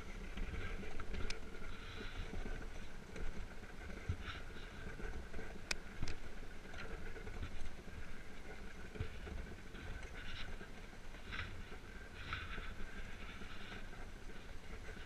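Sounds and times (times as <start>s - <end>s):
runners rumbling and hissing on ice: 0.0s - 15.0s.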